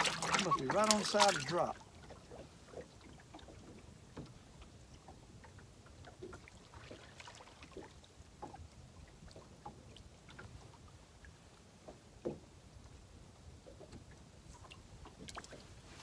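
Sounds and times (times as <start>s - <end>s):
water lapping at hull: 0.0s - 16.0s.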